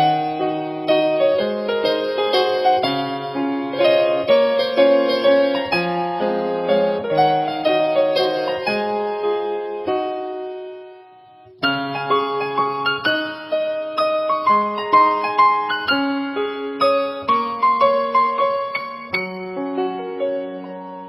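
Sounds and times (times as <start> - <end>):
solo piano melody: 0.0 - 21.0.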